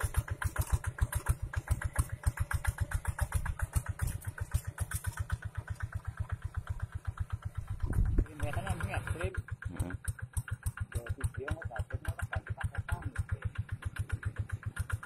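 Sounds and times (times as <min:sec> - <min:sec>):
diesel tractor engine chugging: 0:00.0 - 0:15.0.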